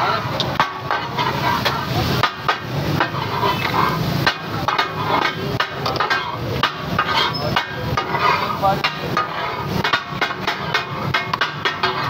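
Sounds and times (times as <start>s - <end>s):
steel spatulas striking iron griddle: 0.0s - 12.0s.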